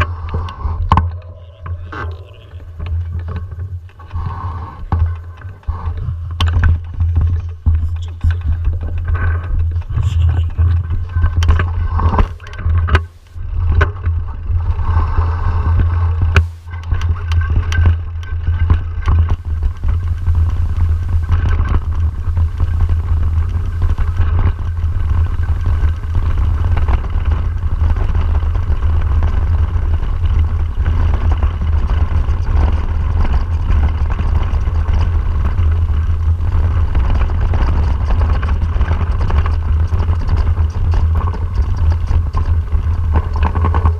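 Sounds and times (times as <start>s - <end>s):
bike clattering on rough track: 0.0s - 43.9s
bike tyres rumbling: 0.0s - 43.9s
wind buffeting microphone: 0.0s - 43.9s.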